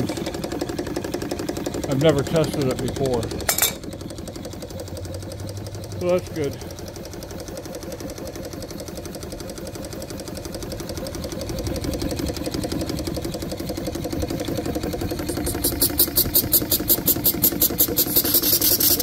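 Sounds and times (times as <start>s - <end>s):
steam engine mechanical beat: 0.0s - 19.0s.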